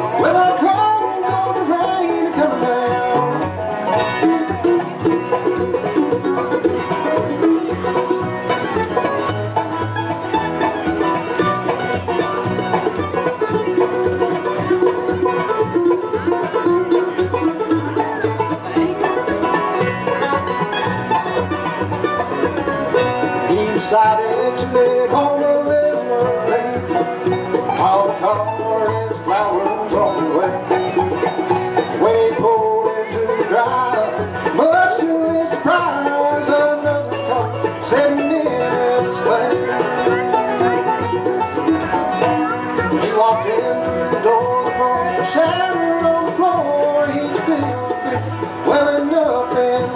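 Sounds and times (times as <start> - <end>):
banjo: 0.0 - 49.9
bluegrass band playing: 0.0 - 49.9
resonator guitar sliding notes: 0.0 - 49.9.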